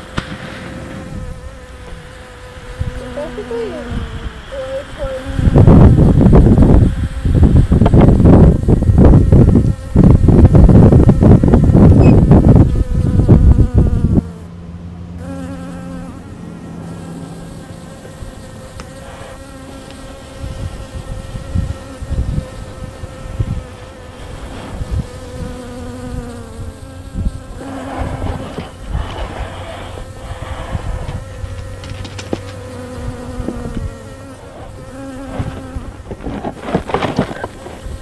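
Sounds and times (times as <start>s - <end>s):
wasps buzzing: 0.0s - 14.6s, 15.2s - 38.0s.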